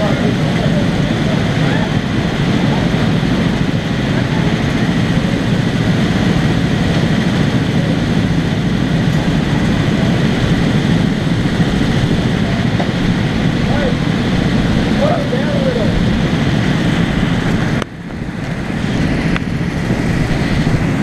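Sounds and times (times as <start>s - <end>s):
go-kart engines idling: 0.0s - 21.0s.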